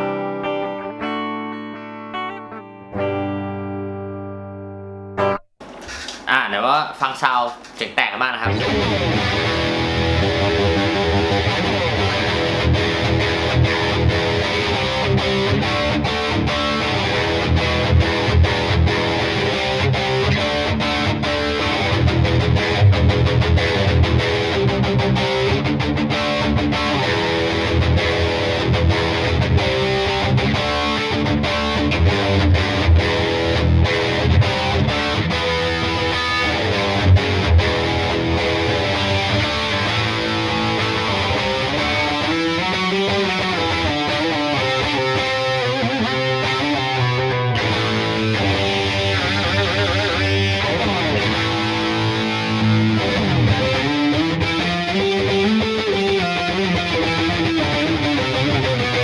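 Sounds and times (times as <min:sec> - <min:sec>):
distorted electric guitar riffing: 0:00.0 - 0:06.3, 0:07.5 - 0:59.0.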